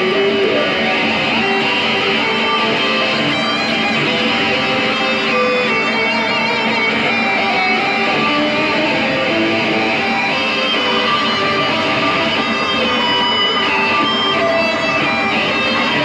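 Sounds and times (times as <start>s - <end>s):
electric guitars noise improvisation: 0.0s - 16.0s.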